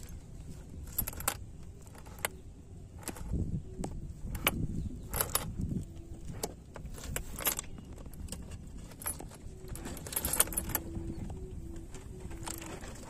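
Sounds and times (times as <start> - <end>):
steel chain clinking and rattling: 0.0 - 13.0.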